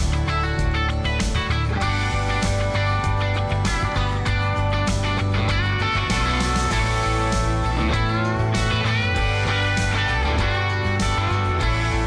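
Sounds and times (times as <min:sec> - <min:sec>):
guitar music with beat and bass: 0:00.0 - 0:12.0.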